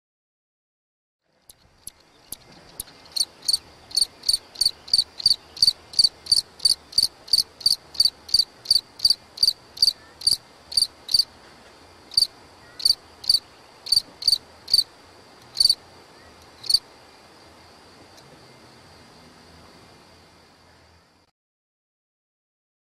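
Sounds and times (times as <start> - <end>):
cricket chirping: 1.5 - 21.3.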